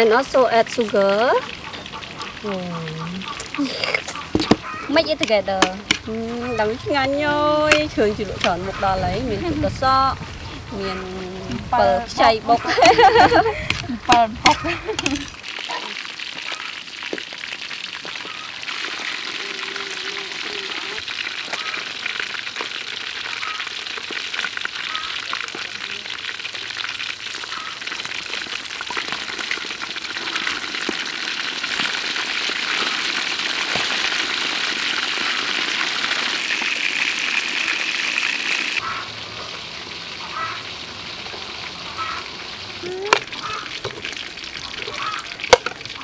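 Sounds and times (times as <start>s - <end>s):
fish deep-frying in oil: 0.0s - 46.0s.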